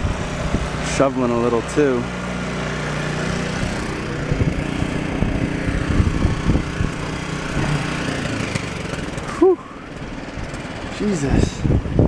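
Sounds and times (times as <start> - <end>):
snowblower engine running: 0.0 - 12.0.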